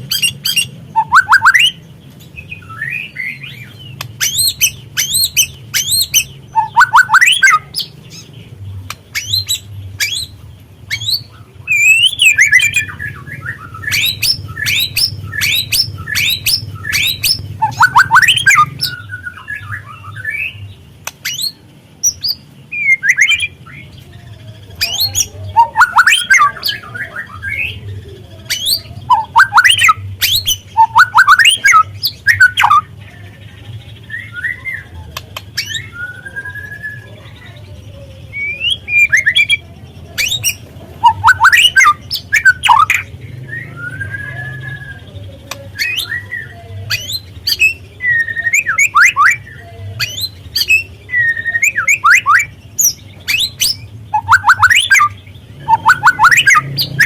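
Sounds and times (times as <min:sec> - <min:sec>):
songbird chattering and whistling: 0:00.0 - 0:57.0.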